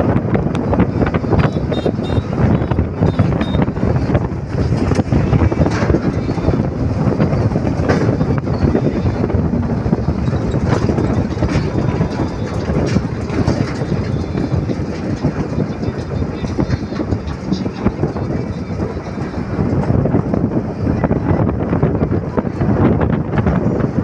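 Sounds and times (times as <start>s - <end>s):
truck cab rattling and knocking: 0.0s - 24.0s
truck engine and road noise: 0.0s - 24.0s.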